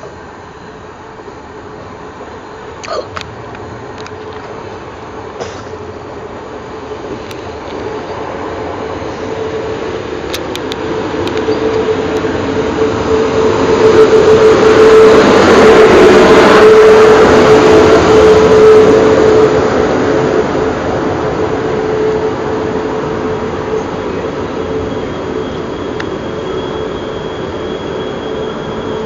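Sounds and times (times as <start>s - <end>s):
electric train passing: 0.0s - 29.0s.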